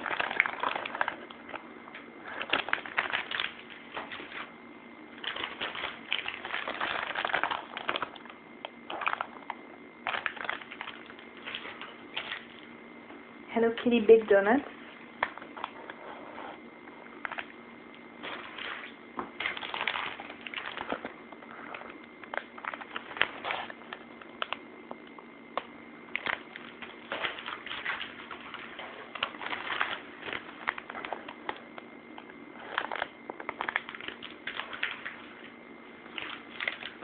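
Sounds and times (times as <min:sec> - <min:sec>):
plastic packaging crinkling: 0:00.0 - 0:12.8, 0:15.1 - 0:37.0
faint electrical hum: 0:00.0 - 0:37.0.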